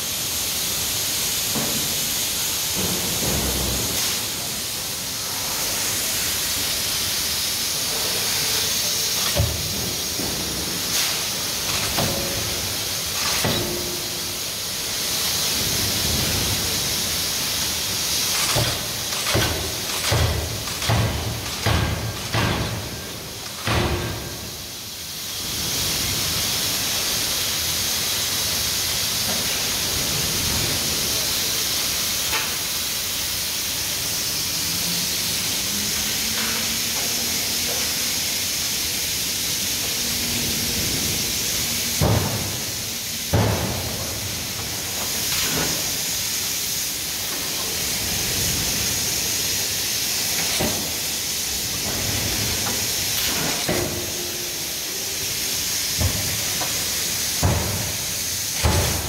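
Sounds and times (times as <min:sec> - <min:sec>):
loud hiss of forge equipment: 0:00.0 - 0:59.0.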